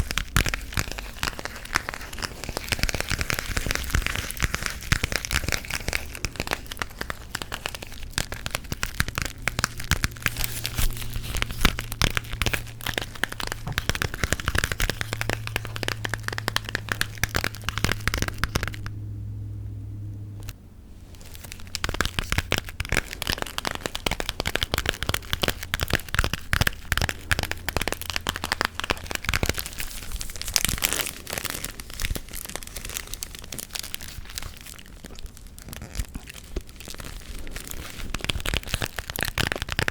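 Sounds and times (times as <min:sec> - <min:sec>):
gum chewing crackles and clicks: 0:00.0 - 0:19.0, 0:21.2 - 0:39.9.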